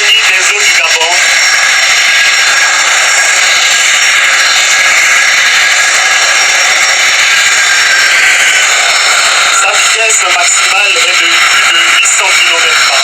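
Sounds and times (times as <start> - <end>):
high engine whine: 0.0 - 13.0
jet engines rushing hiss: 0.0 - 13.0.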